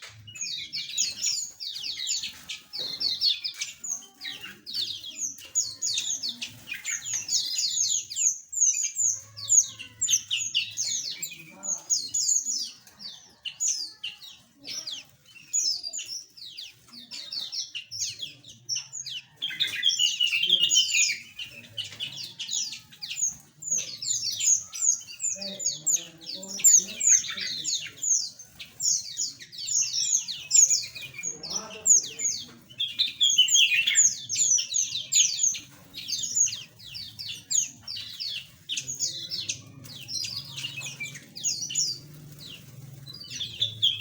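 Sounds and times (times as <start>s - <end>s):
flock of small birds chirping: 0.0s - 44.0s.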